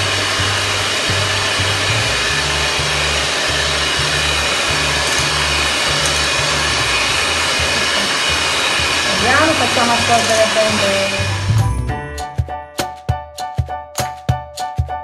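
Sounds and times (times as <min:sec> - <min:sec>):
electric mixer whirring: 0:00.0 - 0:12.2.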